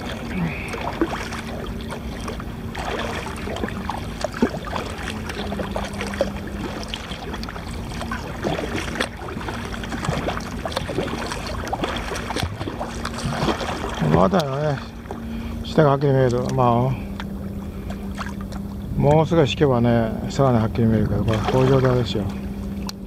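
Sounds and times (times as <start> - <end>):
water lapping against kayak hull: 0.0 - 23.0.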